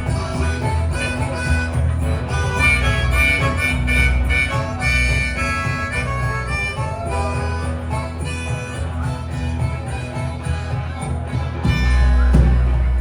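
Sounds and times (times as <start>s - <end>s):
guitar: 0.0s - 13.0s
harmonica playing lead: 0.0s - 13.0s
steady bass line: 0.0s - 13.0s.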